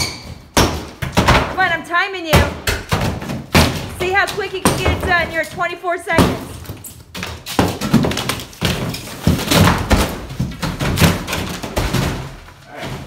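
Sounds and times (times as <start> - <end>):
drywall smashing and crashing: 0.0 - 13.0.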